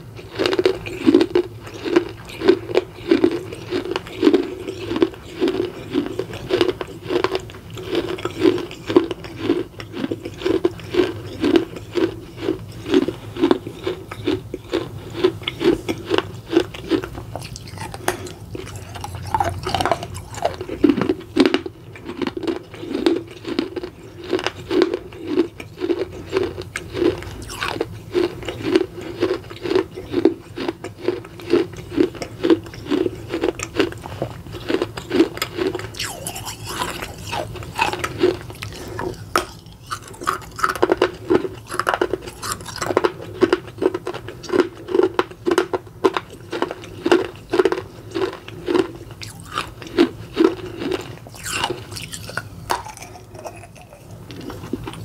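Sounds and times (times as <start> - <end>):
crunching and chewing clay: 0.0 - 55.0.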